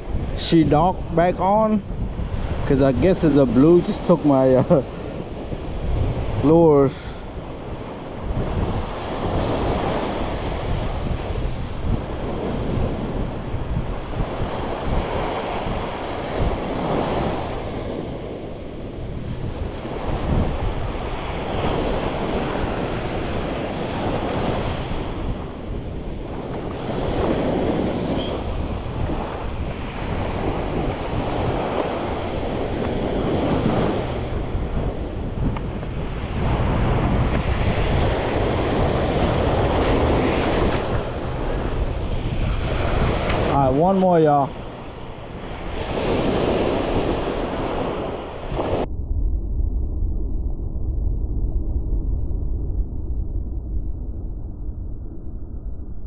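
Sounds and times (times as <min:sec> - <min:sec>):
surf breaking on beach: 0:00.0 - 0:48.9
wind buffeting microphone: 0:00.0 - 0:56.0.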